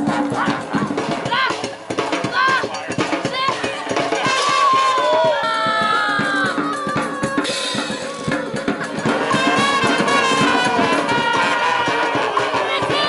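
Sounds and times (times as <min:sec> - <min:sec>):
brass band playing: 0:00.0 - 0:06.7, 0:07.4 - 0:13.0
steady drumbeat: 0:00.0 - 0:13.0.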